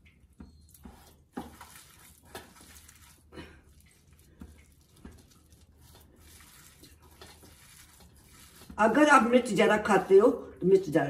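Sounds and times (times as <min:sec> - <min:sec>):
soft squelches of mashing potato: 0:00.0 - 0:11.0.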